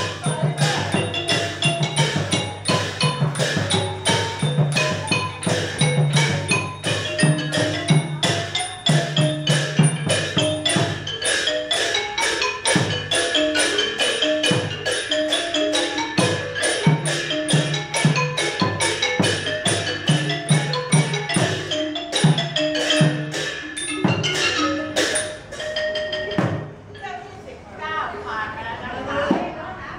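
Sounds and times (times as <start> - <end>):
xylophone and gong melody: 0.0 - 26.8
steady percussion beat: 0.0 - 26.9.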